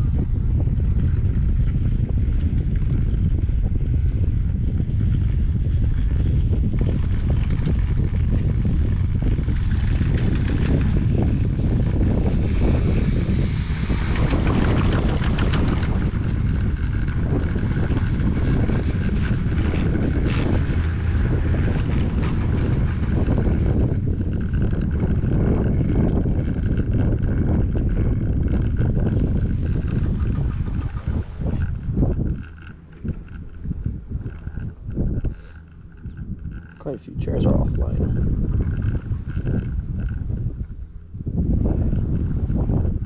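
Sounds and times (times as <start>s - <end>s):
chairlift rumble: 0.0s - 43.0s
rope clicking over sheave wheels: 0.0s - 43.0s
wind buffeting microphone: 0.0s - 43.0s.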